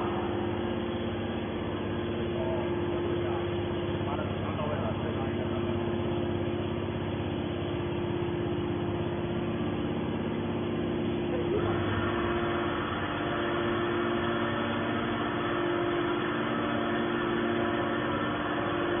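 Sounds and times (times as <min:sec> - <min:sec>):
baler pump motor hum: 0:00.0 - 0:19.0.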